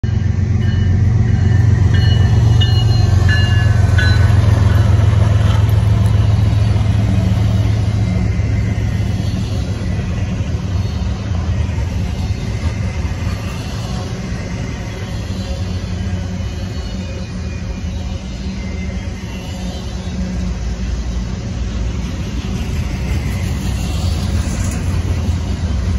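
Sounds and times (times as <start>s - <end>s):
diesel locomotive engine rumble: 0.0s - 25.9s
freight cars rolling past: 0.1s - 25.9s.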